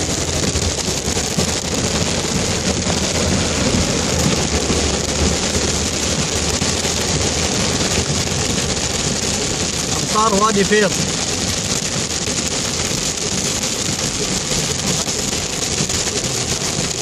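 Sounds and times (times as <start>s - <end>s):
low rumble: 0.0s - 17.0s
rain falling: 0.0s - 17.0s.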